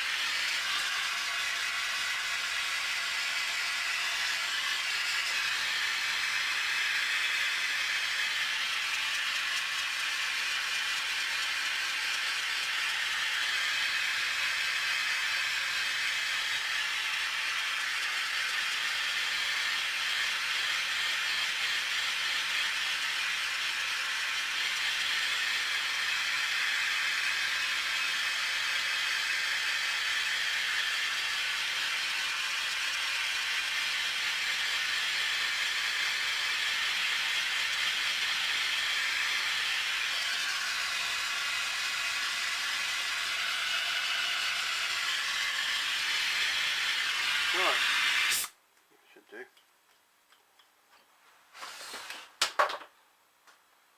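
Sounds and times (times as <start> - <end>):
torch flame hissing: 0.0 - 48.5.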